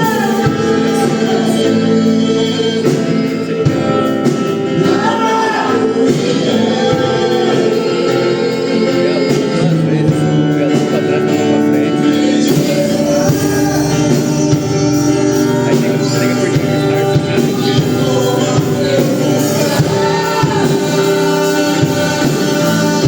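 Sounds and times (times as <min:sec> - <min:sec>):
band chords with guitar: 0:00.0 - 0:23.0
person singing: 0:00.0 - 0:23.0.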